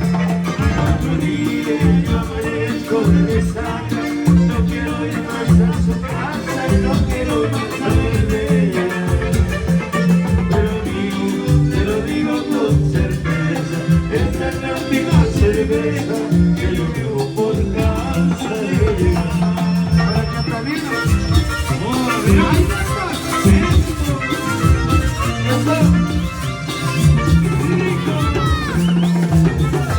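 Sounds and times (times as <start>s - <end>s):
person singing: 0.0s - 26.2s, 27.3s - 29.9s
latin dance band music: 0.0s - 29.9s
shaker percussion: 0.0s - 29.9s.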